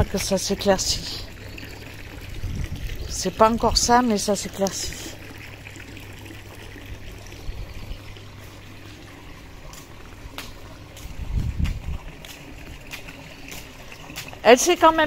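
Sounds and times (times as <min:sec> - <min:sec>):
steady low hum: 0:00.0 - 0:14.6
water trickling: 0:00.0 - 0:15.0.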